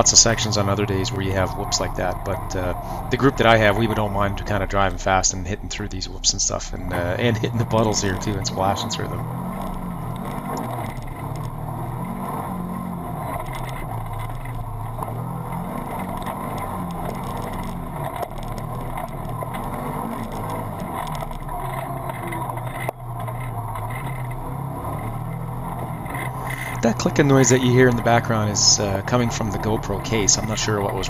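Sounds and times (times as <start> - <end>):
engine running: 0.0 - 31.0.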